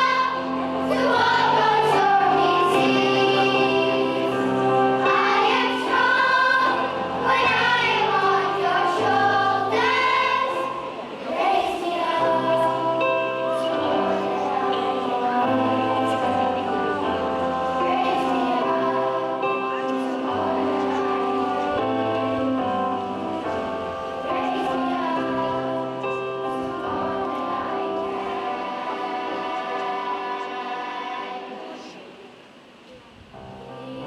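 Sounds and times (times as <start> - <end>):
sustained instrumental chords: 0.0 - 31.9
choir-like singing: 0.0 - 32.5, 33.4 - 34.0.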